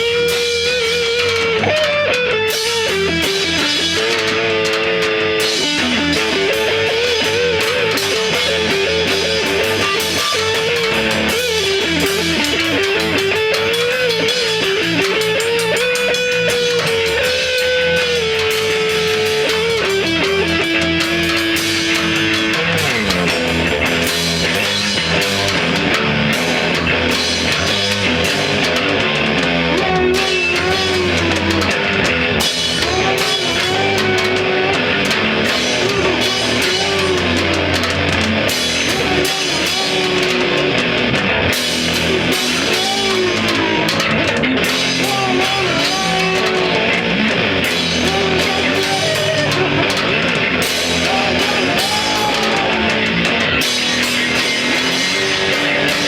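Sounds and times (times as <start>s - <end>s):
drum kit: 0.0s - 56.0s
lead guitar melody: 0.0s - 56.0s.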